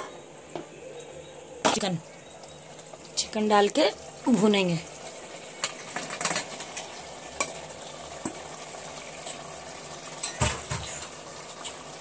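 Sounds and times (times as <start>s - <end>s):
low sizzle: 0.0s - 12.0s.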